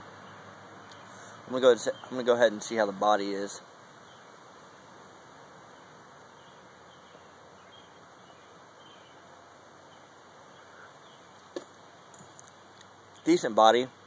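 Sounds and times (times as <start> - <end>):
faint background hiss: 0.0 - 14.0.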